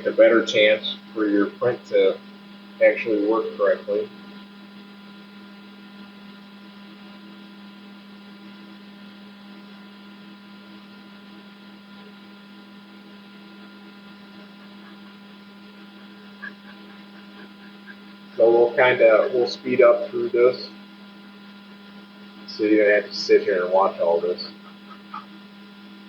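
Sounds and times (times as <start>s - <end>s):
printer fans and motors humming: 0.0s - 26.0s.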